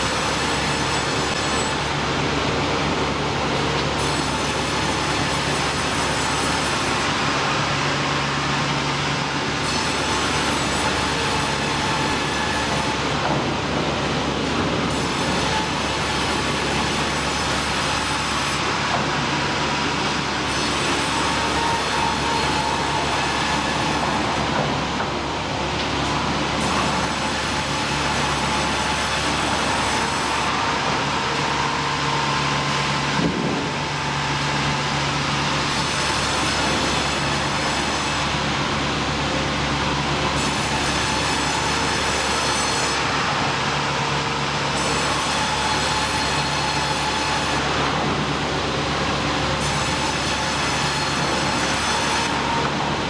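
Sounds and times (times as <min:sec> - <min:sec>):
sawmill machinery rumbling: 0:00.0 - 0:53.0.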